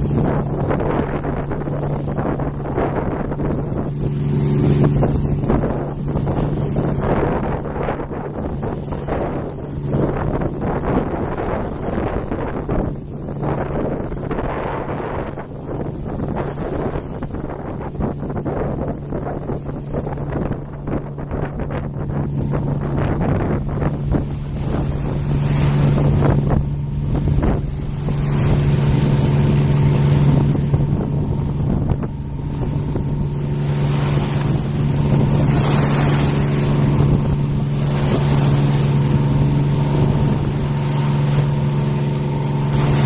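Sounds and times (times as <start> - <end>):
boat engine drone: 0.0 - 43.0
trees tossing in wind: 0.0 - 43.0
wind buffeting microphone: 0.0 - 43.0.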